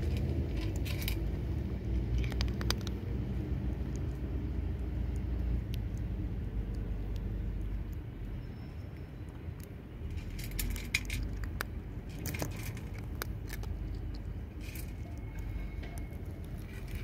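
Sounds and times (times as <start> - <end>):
cat crunching kibble: 0.0 - 8.1, 9.2 - 17.0
low background rumble: 0.0 - 17.0.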